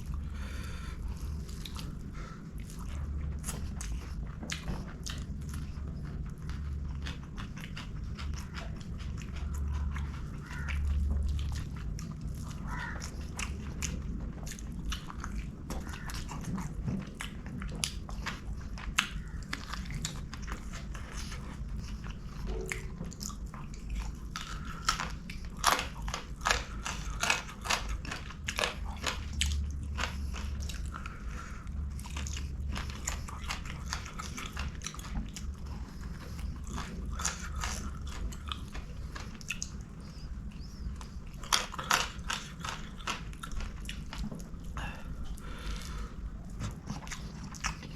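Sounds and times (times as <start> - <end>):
low steady hum: 0.0 - 47.9
person chewing food: 0.0 - 47.9.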